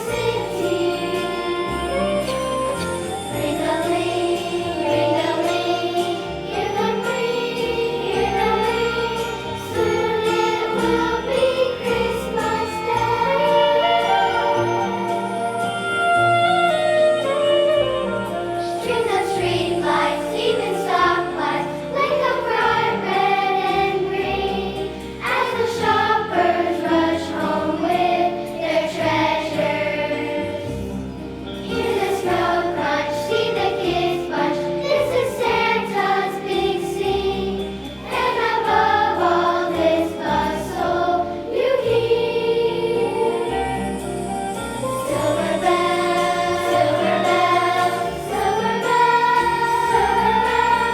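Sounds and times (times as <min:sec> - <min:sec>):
choir singing: 0:00.0 - 0:16.9, 0:18.2 - 0:50.9.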